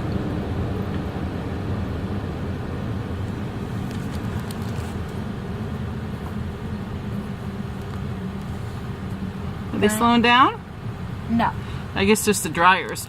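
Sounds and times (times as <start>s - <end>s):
car wash machinery rumble: 0.0s - 13.0s.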